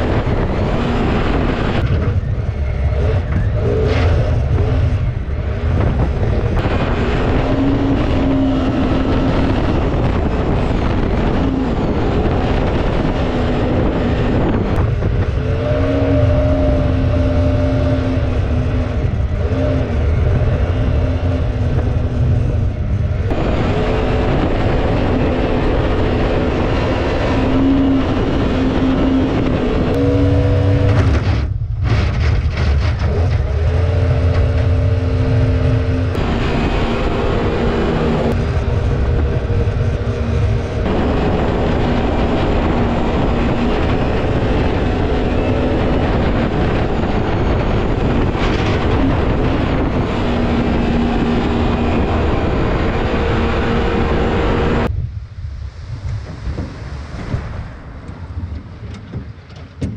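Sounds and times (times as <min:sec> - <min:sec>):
boat engine running hard: 0:00.0 - 0:54.9.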